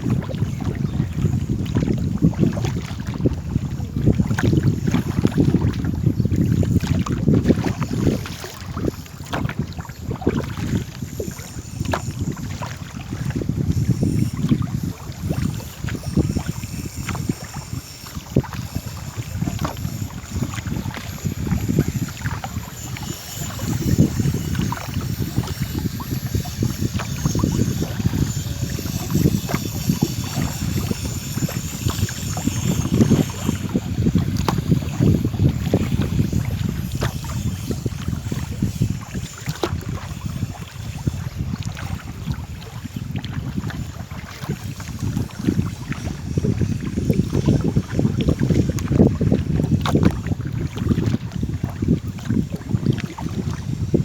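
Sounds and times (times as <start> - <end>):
water splashing and sloshing: 0.0 - 54.0
wind buffeting microphone: 0.0 - 54.0.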